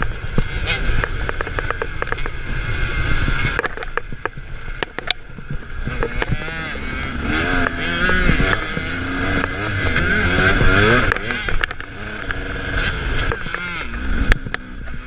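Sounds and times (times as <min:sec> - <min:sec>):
dirt bike engine revving: 0:00.0 - 0:15.0
wind noise: 0:00.0 - 0:15.0.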